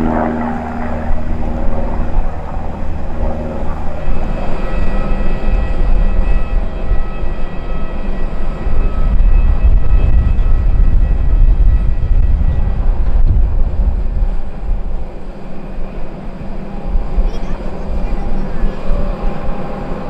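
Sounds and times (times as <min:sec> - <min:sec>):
turboprop engine hum: 0:00.0 - 0:20.0
wind rumble on microphone: 0:00.0 - 0:20.0.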